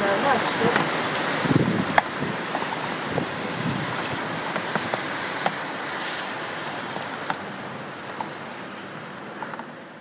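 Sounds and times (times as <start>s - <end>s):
raindrops tapping close by: 0.0s - 10.0s
wind-driven rain hissing: 0.0s - 10.0s.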